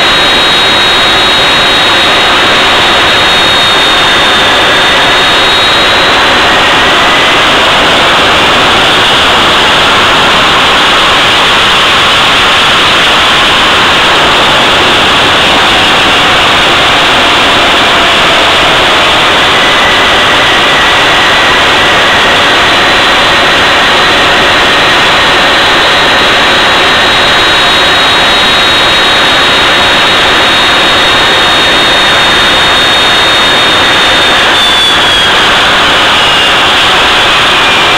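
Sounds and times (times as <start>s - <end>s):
jet engine rushing with whine: 0.0s - 37.9s.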